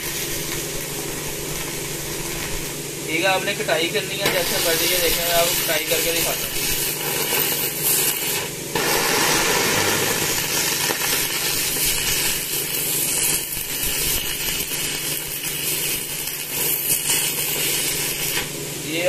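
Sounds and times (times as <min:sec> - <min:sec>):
welding arc burning: 0:00.0 - 0:19.0.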